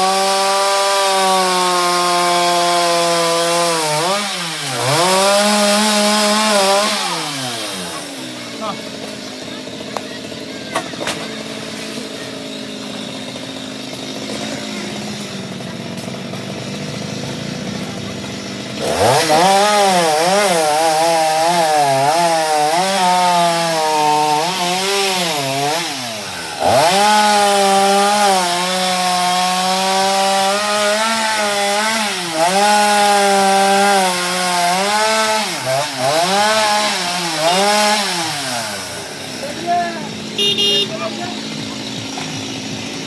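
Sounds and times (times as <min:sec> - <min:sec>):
chainsaw revving: 0:00.0 - 0:43.0.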